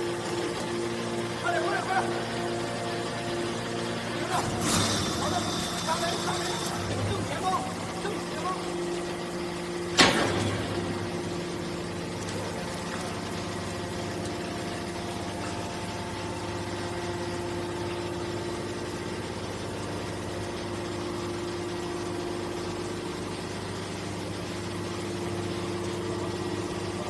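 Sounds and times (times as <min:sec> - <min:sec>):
heavy machinery drone: 0:00.0 - 0:22.9.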